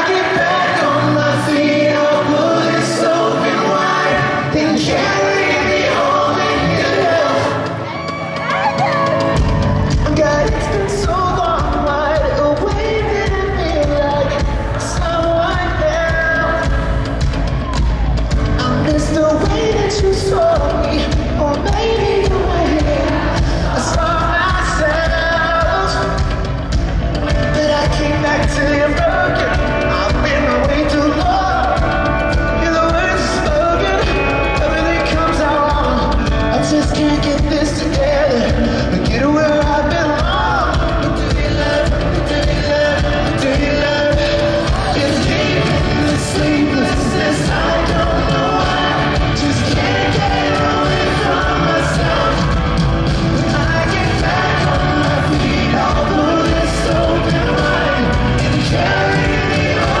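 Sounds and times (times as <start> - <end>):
man singing lead vocals: 0.0 - 7.9, 9.0 - 60.0
electric guitar: 0.0 - 60.0.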